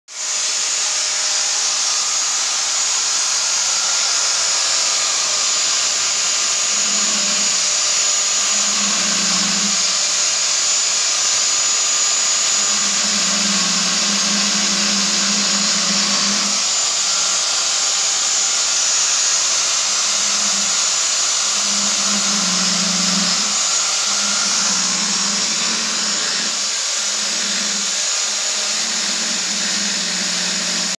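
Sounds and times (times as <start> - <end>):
angle grinder grinding granite: 0.1 - 30.9.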